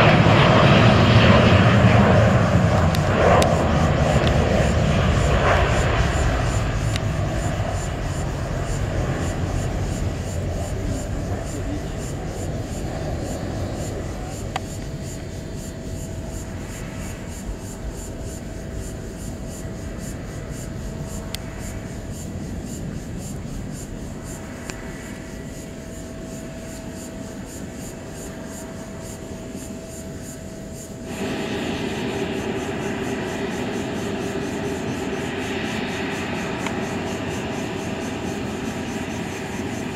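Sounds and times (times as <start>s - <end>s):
distant jet engine rumble: 0.0s - 39.9s
loud steady noise: 0.0s - 39.9s.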